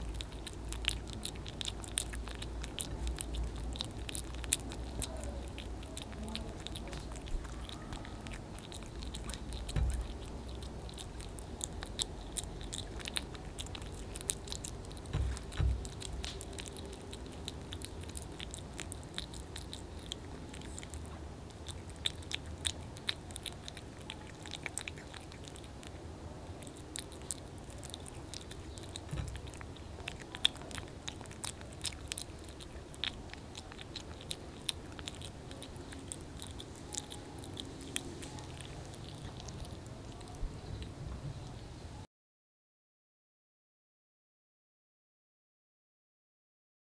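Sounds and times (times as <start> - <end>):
kitten chewing wet food: 0.0 - 42.0.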